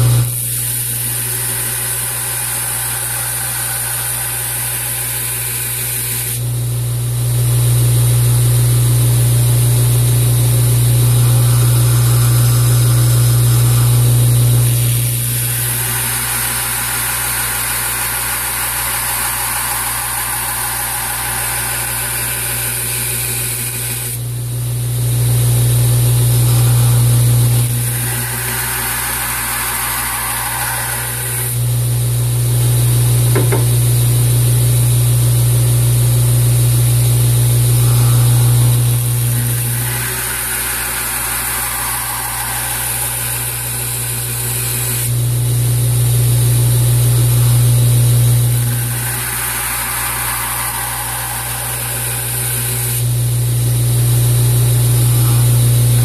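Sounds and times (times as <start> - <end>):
belt grinder grinding steel: 0.0 - 6.5, 10.0 - 24.3, 25.5 - 34.0, 36.7 - 45.4, 46.5 - 56.0.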